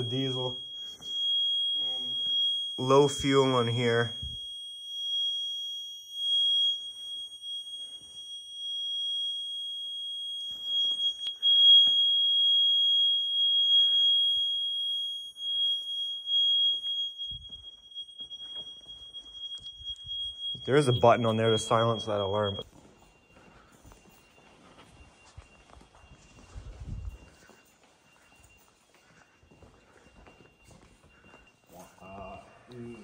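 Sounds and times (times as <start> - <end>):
high-pitched alarm buzzer: 0.0 - 33.0.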